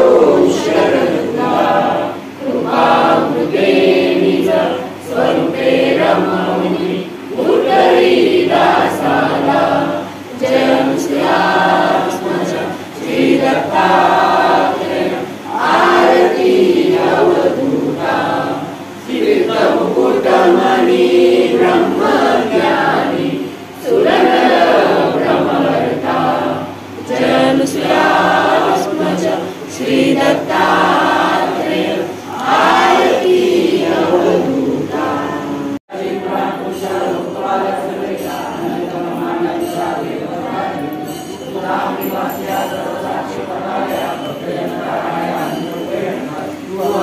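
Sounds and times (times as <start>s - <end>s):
group singing devotional song: 0.0s - 47.0s.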